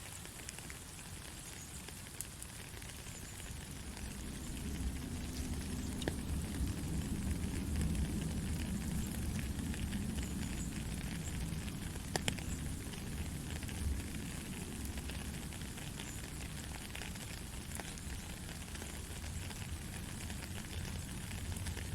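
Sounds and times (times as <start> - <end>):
soft rain hissing: 0.0 - 21.9.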